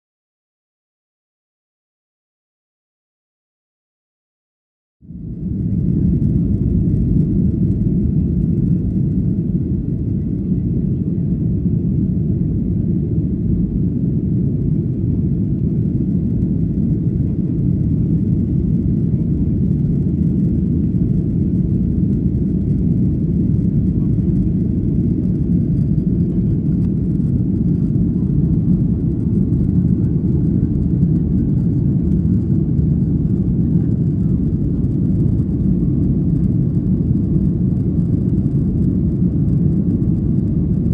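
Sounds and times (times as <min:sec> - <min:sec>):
airplane cabin rumble: 0:05.1 - 0:40.9.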